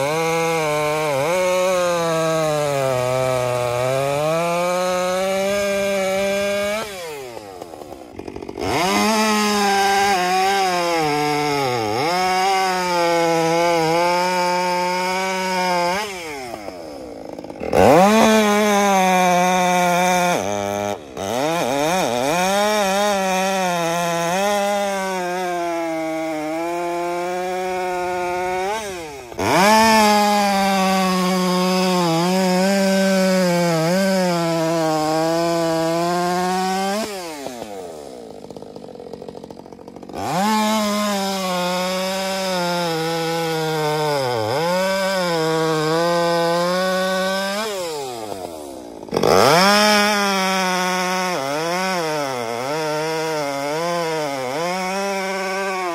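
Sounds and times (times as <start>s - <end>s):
chainsaw cutting logs: 0.0s - 55.9s.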